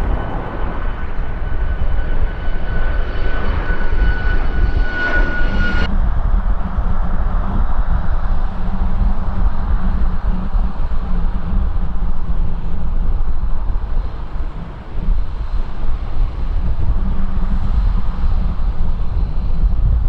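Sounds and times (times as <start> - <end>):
jet engine deep rumble: 0.0 - 20.0
jet engine high whine: 0.0 - 20.0.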